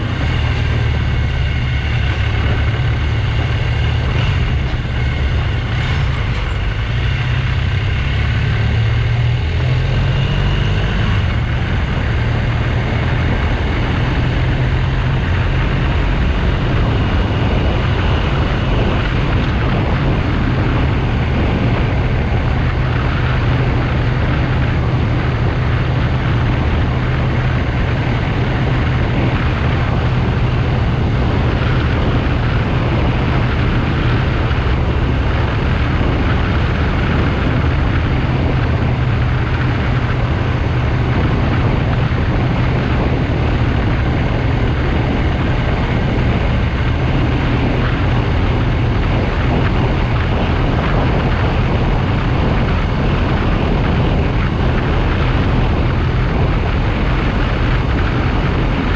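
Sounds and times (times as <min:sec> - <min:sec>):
motorcycle engine droning: 0:00.0 - 0:58.9
wind and road noise: 0:00.0 - 0:58.9.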